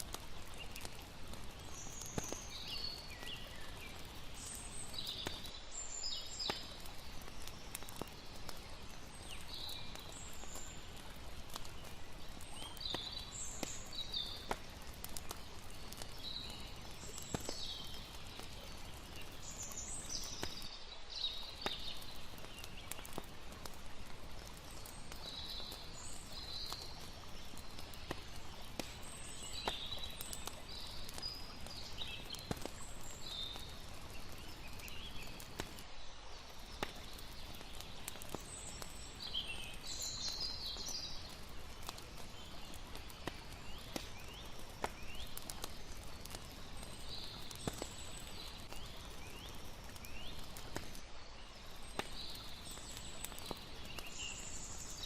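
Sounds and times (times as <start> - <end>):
flowing water: 0.0 - 20.7, 21.3 - 55.0
campfire crackling and popping: 0.0 - 55.0
birds chirping: 0.1 - 55.0.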